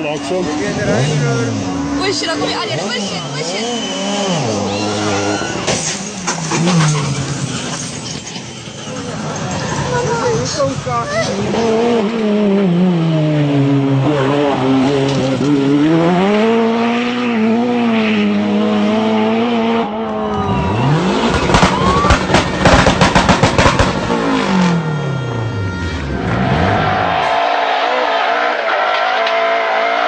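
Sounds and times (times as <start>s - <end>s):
car accelerating with crackles: 0.0s - 8.4s, 9.0s - 25.0s
rally car engines revving: 0.0s - 30.0s.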